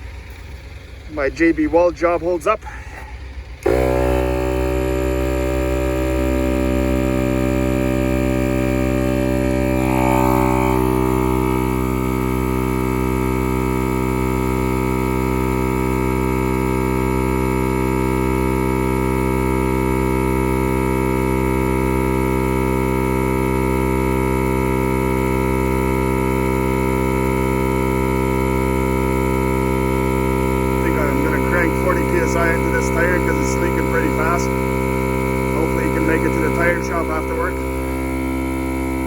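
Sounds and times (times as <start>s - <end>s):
air compressor droning: 0.0s - 39.0s.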